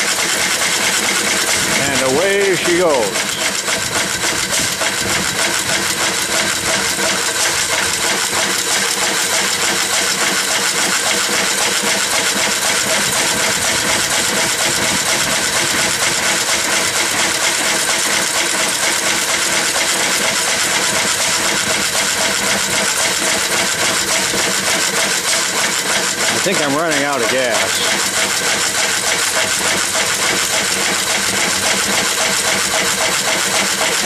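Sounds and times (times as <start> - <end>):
single-cylinder engine clattering: 0.0 - 34.0.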